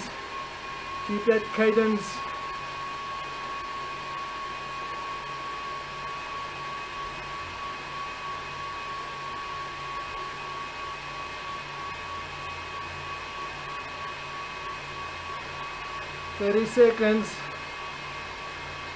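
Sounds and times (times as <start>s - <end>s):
cycling trainer whirring: 0.0s - 18.9s.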